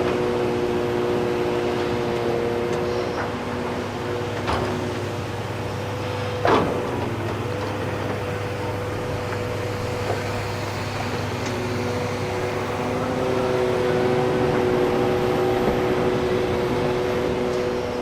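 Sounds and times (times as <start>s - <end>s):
heavy diesel machinery running: 0.0s - 18.0s.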